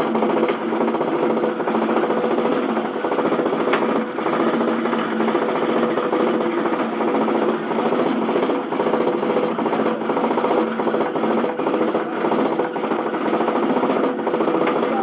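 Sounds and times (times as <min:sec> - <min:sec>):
roller coaster chain lift rattling: 0:00.2 - 0:15.0.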